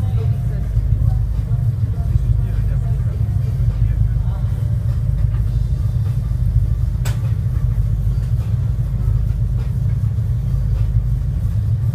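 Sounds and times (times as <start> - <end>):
boat engine rumbling: 0.0 - 11.9.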